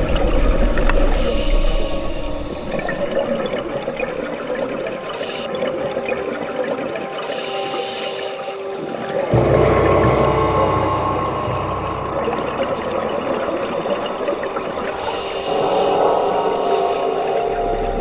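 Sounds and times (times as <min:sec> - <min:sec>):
underwater rushing and bubbling: 0:00.0 - 0:18.0.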